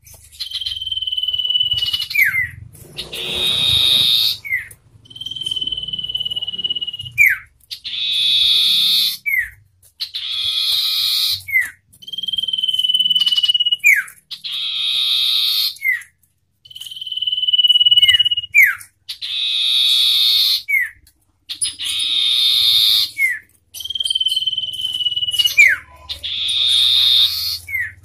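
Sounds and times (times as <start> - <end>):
bird singing trills and whistles: 0.0 - 28.0.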